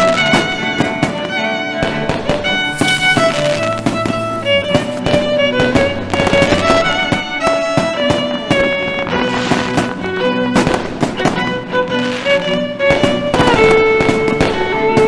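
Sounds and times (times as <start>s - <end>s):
steady percussive beat: 0.0s - 15.0s
violin-like melody: 0.0s - 15.0s.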